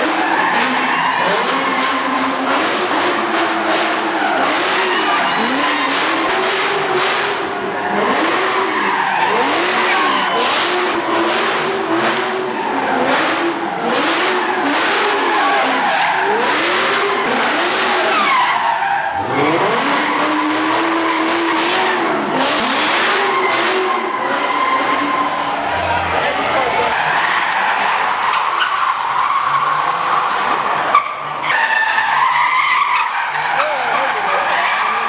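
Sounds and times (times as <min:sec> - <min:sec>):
car engine revving: 0:00.0 - 0:35.0
tyres squealing and skidding: 0:00.0 - 0:35.0.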